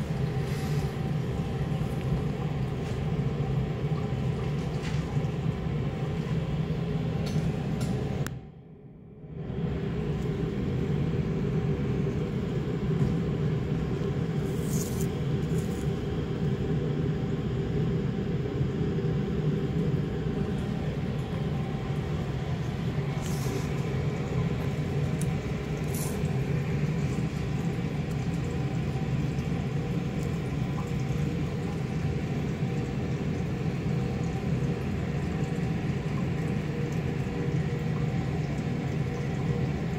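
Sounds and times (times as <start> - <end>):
low machinery hum: 0.0 - 39.9.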